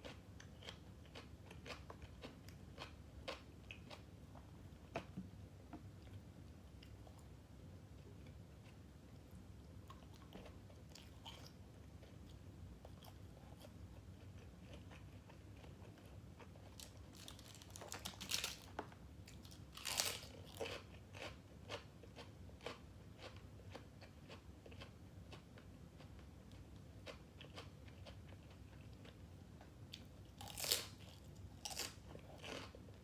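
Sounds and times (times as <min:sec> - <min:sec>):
person chewing crunchy food: 0:00.0 - 0:05.2, 0:09.8 - 0:29.3, 0:29.9 - 0:33.0.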